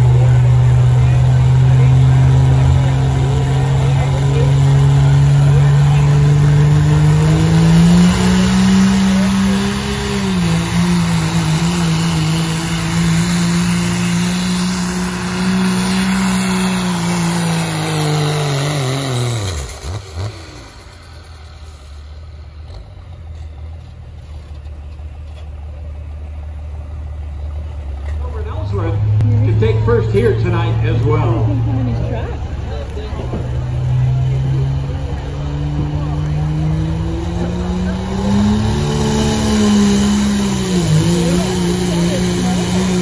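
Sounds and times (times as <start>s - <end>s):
diesel truck engine at full throttle: 0.0s - 43.0s.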